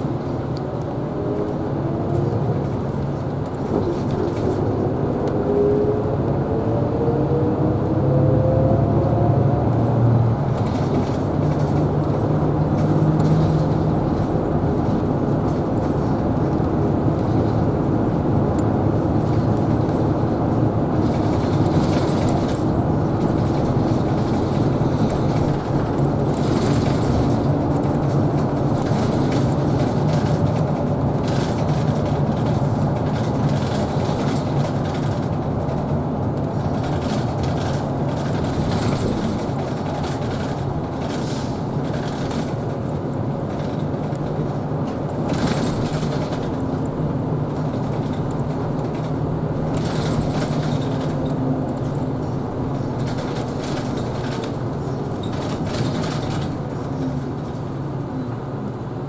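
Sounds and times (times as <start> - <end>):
bus drivetrain hum: 0.0 - 59.0
road noise: 0.0 - 59.0.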